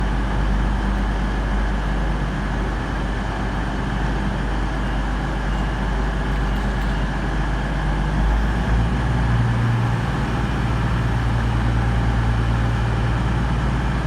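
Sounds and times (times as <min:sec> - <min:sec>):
diesel train engines under load: 0:00.0 - 0:14.0.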